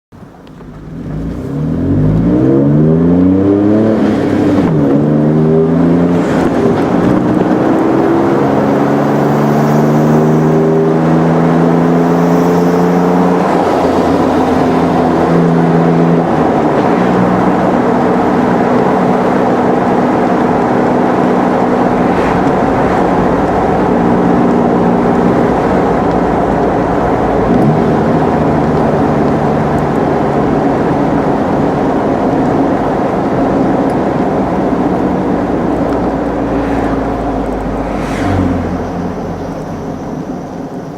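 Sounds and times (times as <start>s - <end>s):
road and wind noise: 0.1s - 40.9s
car exhaust accelerating: 0.2s - 40.9s.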